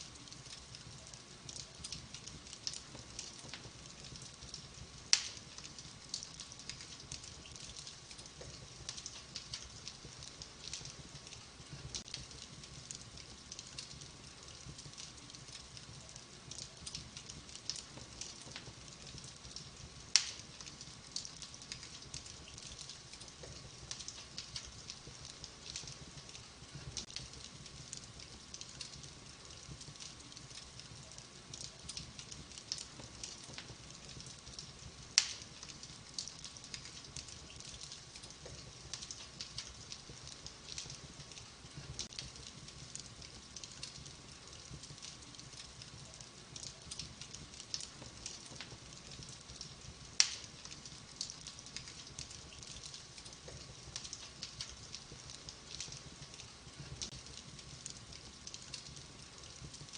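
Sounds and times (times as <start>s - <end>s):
fire crackling in a fireplace: 0.0s - 59.9s
loud fire pops: 0.3s - 31.0s, 31.6s - 59.9s.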